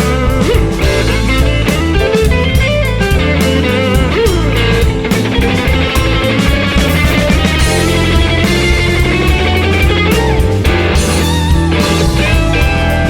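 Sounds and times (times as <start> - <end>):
bass guitar: 0.0 - 13.0
drum kit beat: 0.0 - 13.0
electric guitar lead: 0.0 - 13.0.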